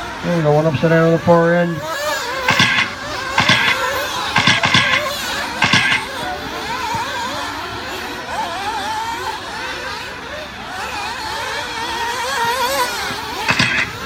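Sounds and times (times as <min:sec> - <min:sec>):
rc car engines whining: 0:00.0 - 0:14.0.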